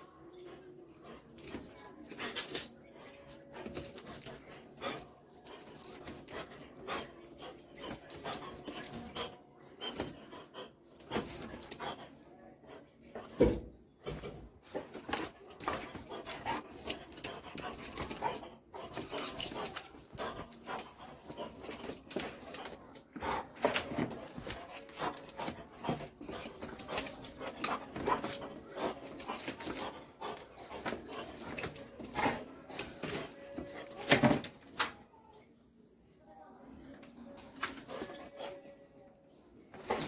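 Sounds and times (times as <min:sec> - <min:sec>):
dog panting: 0:00.4 - 0:13.4, 0:14.7 - 0:33.9.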